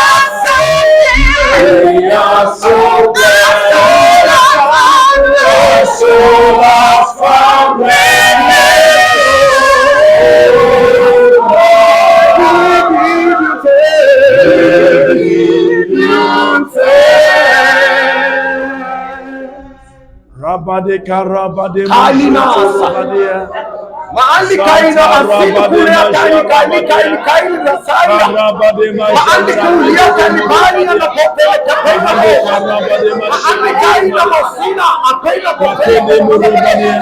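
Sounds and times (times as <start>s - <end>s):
voices singing a worship song: 0.0s - 37.0s.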